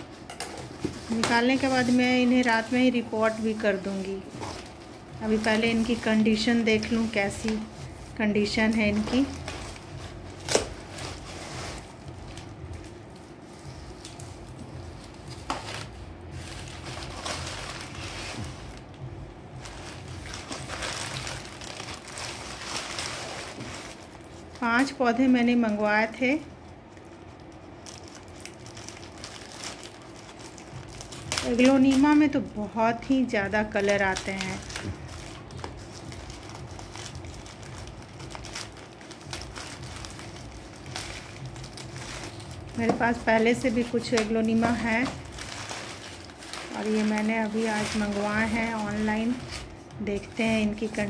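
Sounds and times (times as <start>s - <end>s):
newspaper rustling and crinkling: 0.0s - 51.0s.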